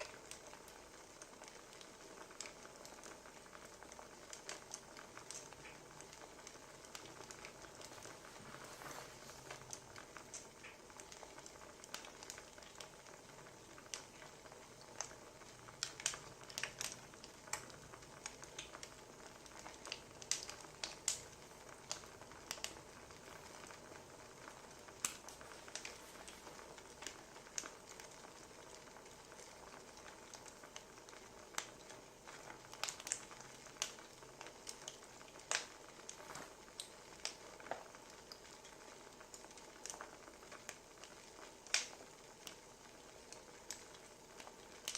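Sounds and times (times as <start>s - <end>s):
faint steady hiss: 0.0s - 44.9s
wood fire crackling: 0.0s - 44.9s.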